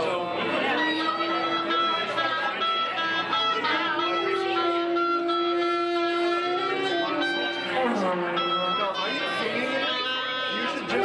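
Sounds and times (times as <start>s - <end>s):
saxophone long held note: 0.7s - 11.0s.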